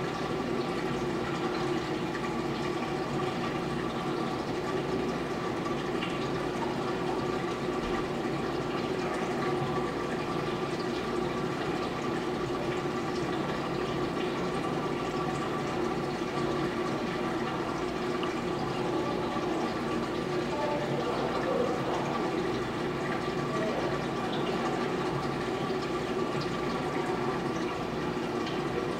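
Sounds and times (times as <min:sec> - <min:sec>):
aquarium water circulating: 0:00.0 - 0:28.9
pump hum: 0:00.0 - 0:28.9.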